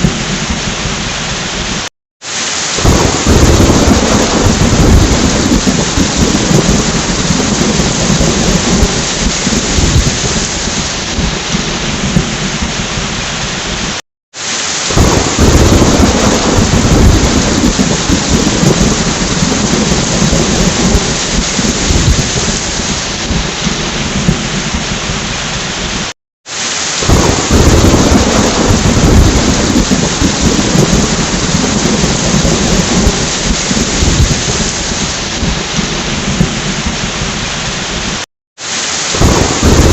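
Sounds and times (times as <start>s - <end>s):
thunder rumbling: 0.0s - 1.9s, 2.7s - 14.0s, 14.8s - 26.1s, 27.0s - 38.2s, 39.1s - 39.9s
heavy rain: 0.0s - 39.9s.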